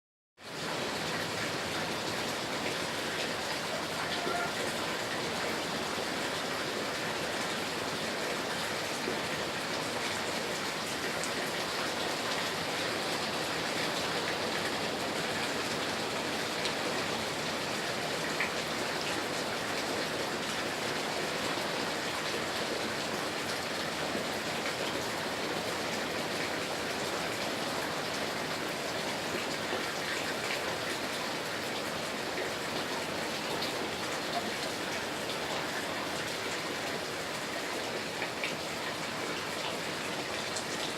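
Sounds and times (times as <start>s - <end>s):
heavy rain falling: 0.4s - 40.9s.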